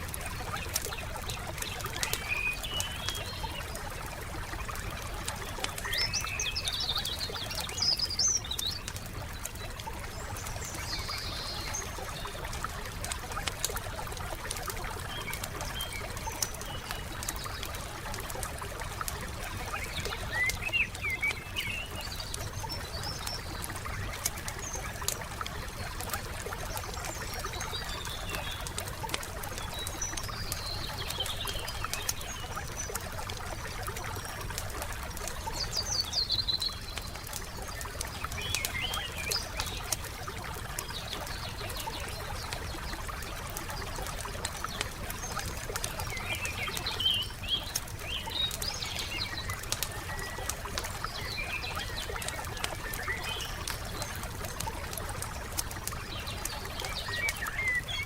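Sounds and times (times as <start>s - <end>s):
campfire crackling and popping: 0.0s - 58.0s
small birds chirping: 0.0s - 58.0s.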